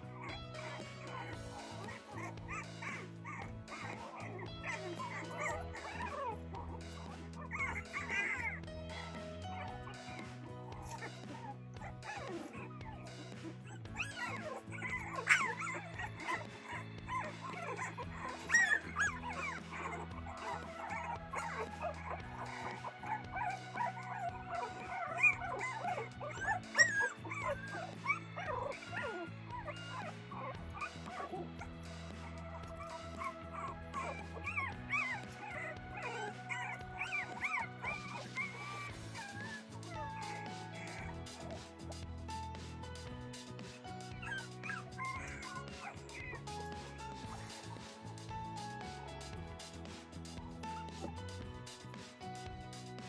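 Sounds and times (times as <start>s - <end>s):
puppies whimpering and yipping: 0.0s - 51.9s
soft background music: 0.0s - 53.0s.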